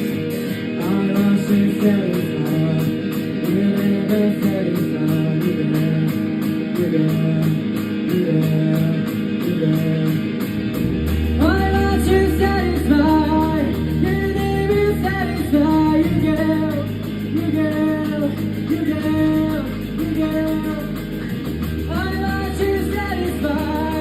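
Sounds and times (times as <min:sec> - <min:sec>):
bass guitar: 0:00.0 - 0:24.0
electric guitar: 0:00.0 - 0:24.0
person singing: 0:00.0 - 0:24.0.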